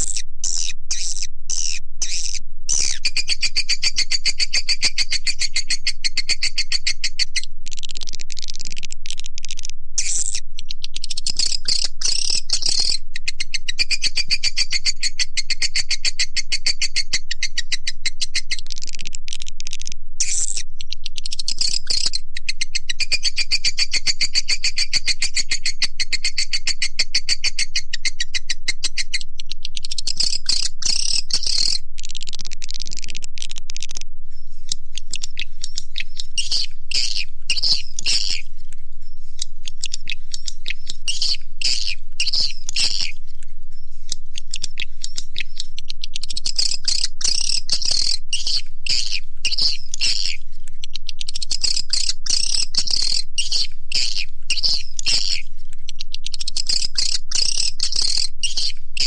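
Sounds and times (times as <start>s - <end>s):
swiftlet twittering chirps: 0.0s - 8.8s, 9.4s - 18.7s, 20.2s - 55.5s, 56.5s - 59.0s.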